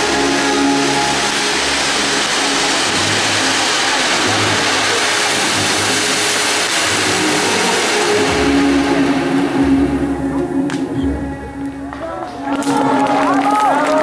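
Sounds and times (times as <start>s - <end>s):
firework fountains hissing: 0.0s - 14.0s.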